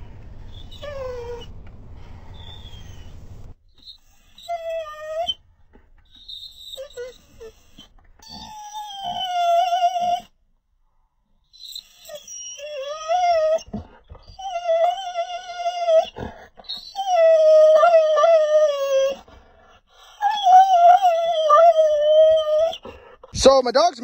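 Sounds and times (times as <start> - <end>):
dog whining: 0.0 - 10.4, 11.5 - 23.4.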